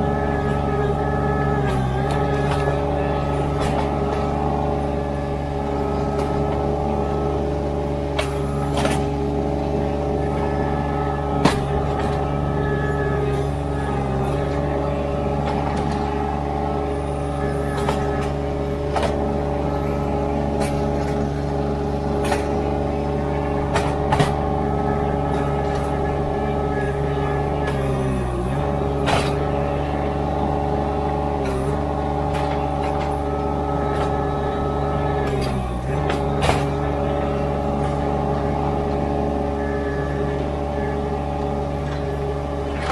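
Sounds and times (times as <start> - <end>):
skid steer engine running: 0.0 - 42.9.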